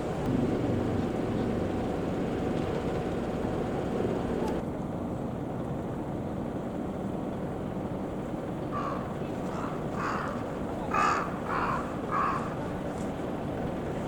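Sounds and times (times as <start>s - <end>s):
low rumble of vehicles: 0.0s - 14.0s.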